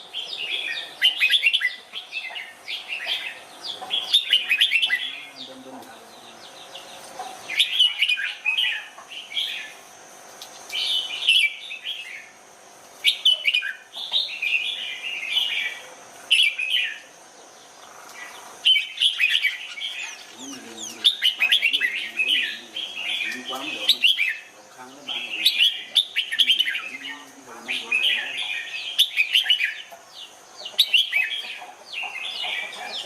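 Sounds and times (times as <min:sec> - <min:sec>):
bird chirping song: 0:00.0 - 0:09.8, 0:10.5 - 0:12.4, 0:13.0 - 0:33.0.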